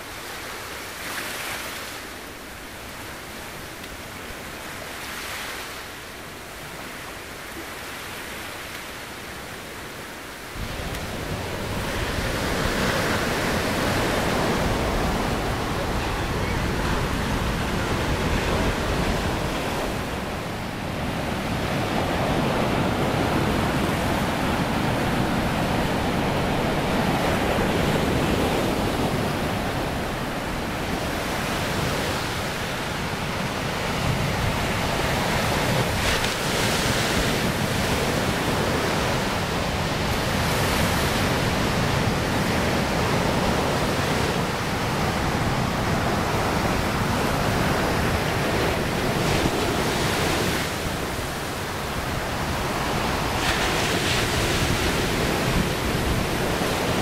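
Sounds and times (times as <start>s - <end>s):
surf breaking on sandy beach: 10.5s - 57.0s.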